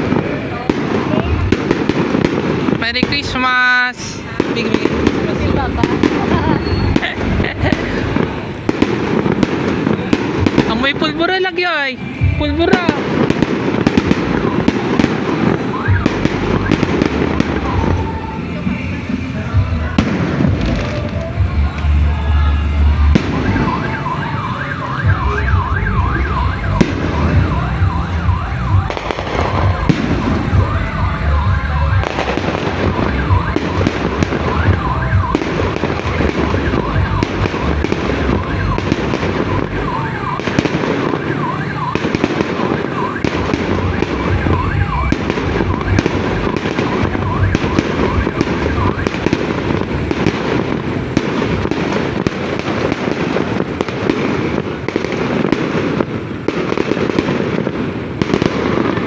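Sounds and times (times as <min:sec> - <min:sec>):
low booms: 0:00.0 - 0:11.2, 0:12.2 - 0:18.4, 0:19.4 - 0:55.2
fireworks bangs and crackles: 0:00.0 - 0:59.0
whistling fireworks: 0:00.0 - 0:59.0.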